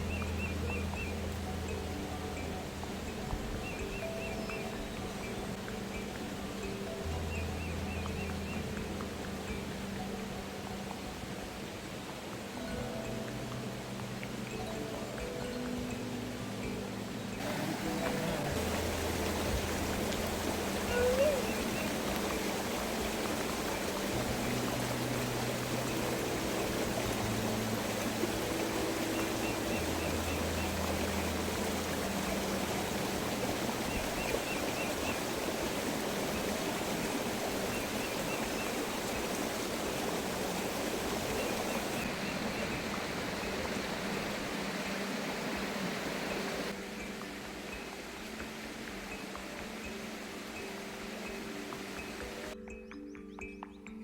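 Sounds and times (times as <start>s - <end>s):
stream water rushing: 0.0s - 53.5s.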